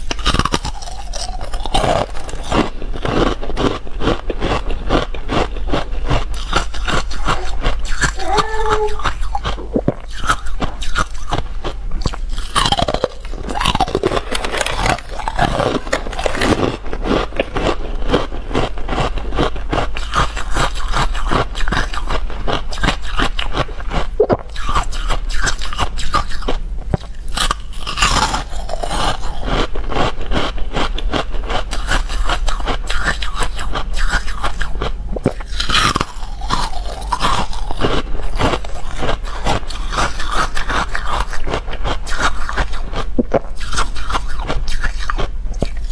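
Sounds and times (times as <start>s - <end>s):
ice being chewed: 0.0s - 45.9s.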